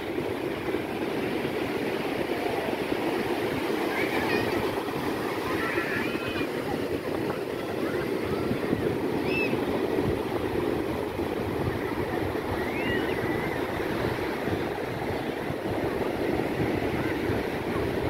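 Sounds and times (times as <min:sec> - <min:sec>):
surf breaking on beach: 0:00.0 - 0:18.0
wind buffeting microphone: 0:00.0 - 0:18.0.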